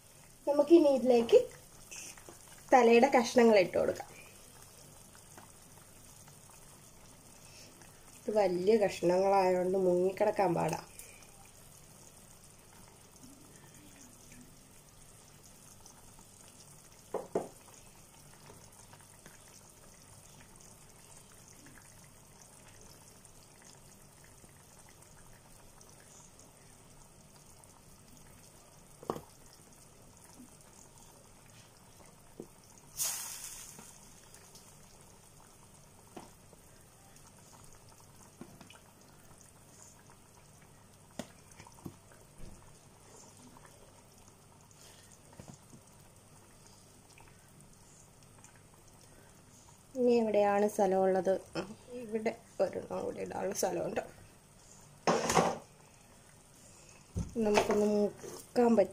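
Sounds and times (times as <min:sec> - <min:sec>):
curry bubbling: 0:00.0 - 0:58.9.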